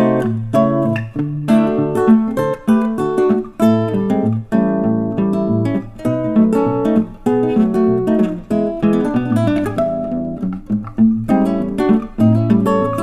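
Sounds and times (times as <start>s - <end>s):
acoustic guitar strummed and plucked: 0.0s - 13.0s.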